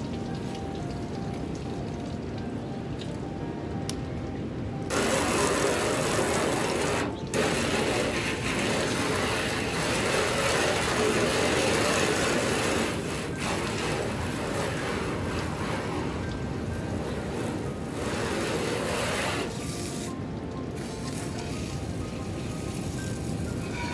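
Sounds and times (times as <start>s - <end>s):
water spraying from hose: 0.0s - 3.2s, 4.8s - 23.9s.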